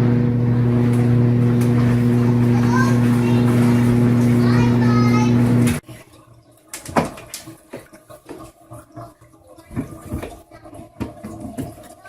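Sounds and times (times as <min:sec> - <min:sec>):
water sloshing in washing machine tub: 0:00.0 - 0:12.0.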